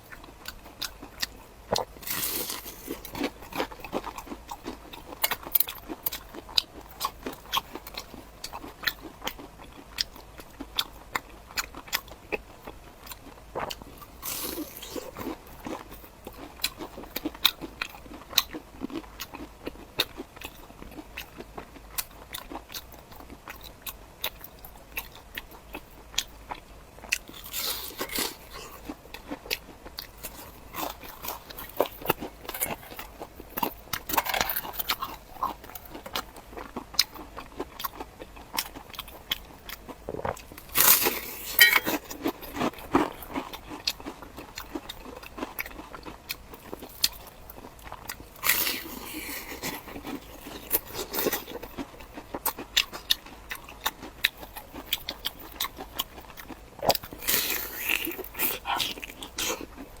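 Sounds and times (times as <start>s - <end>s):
crunchy bites and chewing: 0.0s - 60.0s.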